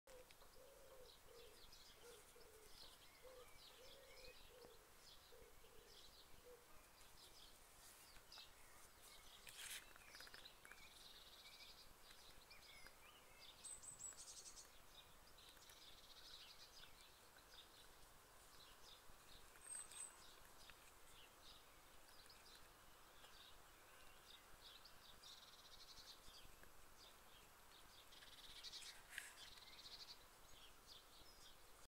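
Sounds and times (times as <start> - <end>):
birds chirping: 0.1 - 31.9.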